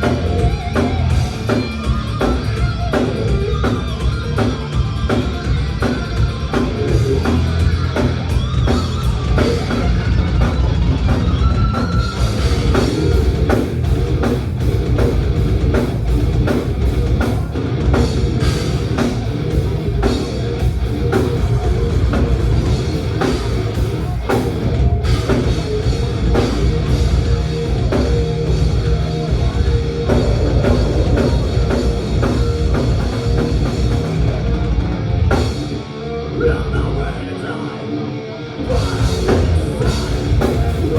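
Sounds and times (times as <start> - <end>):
drum kit rapid hits: 0.0 - 35.8, 38.7 - 40.9
electric guitars: 0.0 - 40.9.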